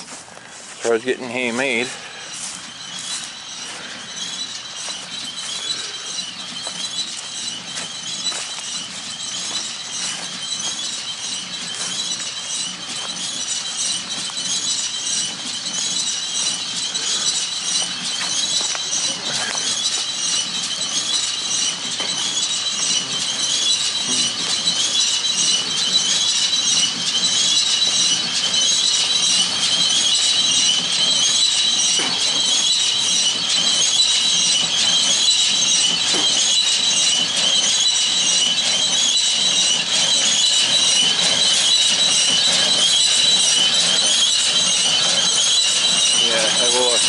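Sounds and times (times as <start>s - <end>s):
high-pitched squeal: 0.0s - 47.0s
tractor and baler running: 0.0s - 47.0s.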